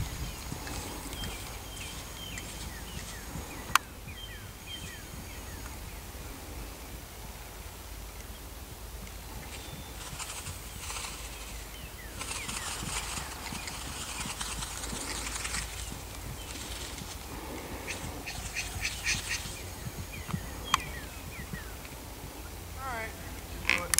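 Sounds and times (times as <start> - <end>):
horse hooves trotting on sand: 0.0 - 7.4, 8.1 - 23.9.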